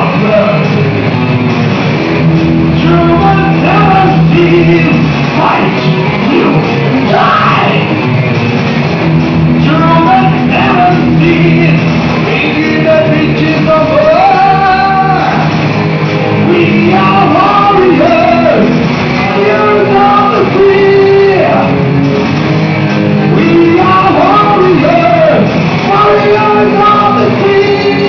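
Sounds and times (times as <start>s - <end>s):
electric guitars: 0.0s - 28.0s
person singing: 2.7s - 8.0s, 9.6s - 21.9s, 23.1s - 28.0s.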